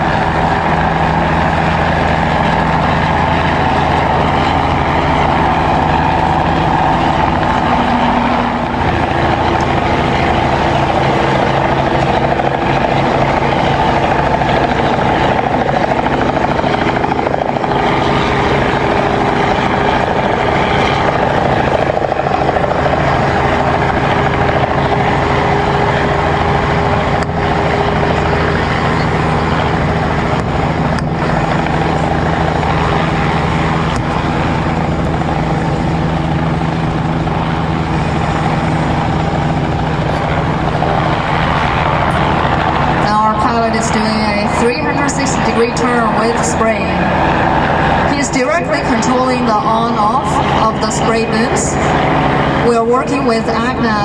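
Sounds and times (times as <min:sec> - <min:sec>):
helicopter engine drone: 0:00.0 - 0:54.0.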